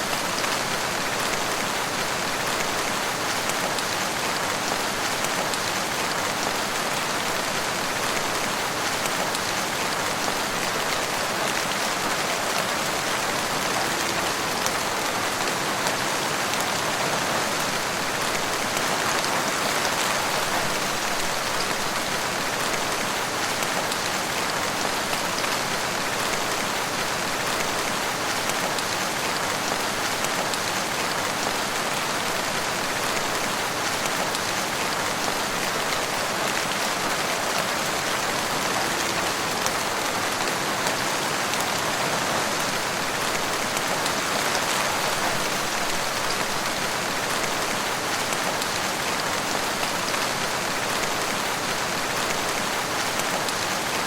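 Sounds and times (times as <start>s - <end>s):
rain falling on forest: 0.0s - 54.0s.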